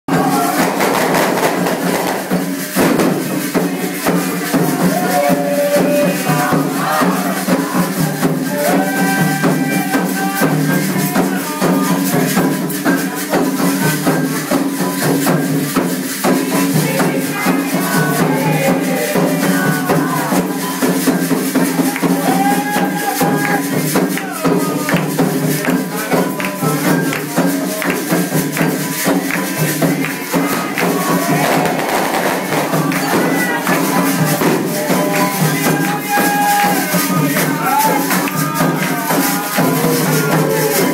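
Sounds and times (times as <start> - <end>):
group singing a chant: 0.1 - 40.9
hand drums: 0.1 - 40.9
rattle shaking: 0.1 - 40.9.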